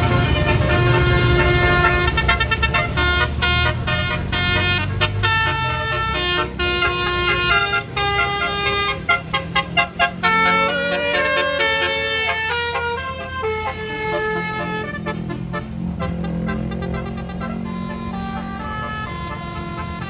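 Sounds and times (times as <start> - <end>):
bus engine rumble: 0.0 - 20.0
multi-note bus horn tune: 0.0 - 20.0.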